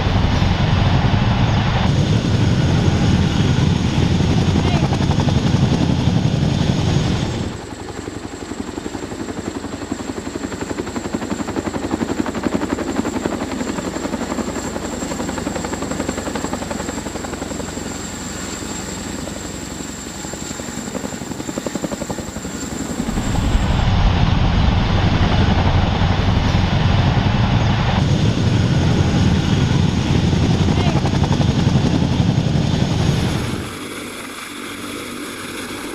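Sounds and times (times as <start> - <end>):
helicopter rotor blades chopping: 0.0 - 35.9
high turbine whine: 0.0 - 35.9.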